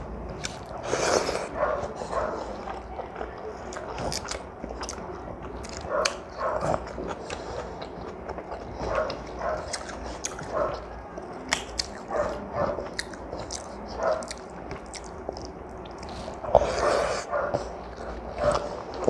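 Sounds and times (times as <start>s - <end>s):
chewing with wet mouth sounds: 0.0s - 19.0s.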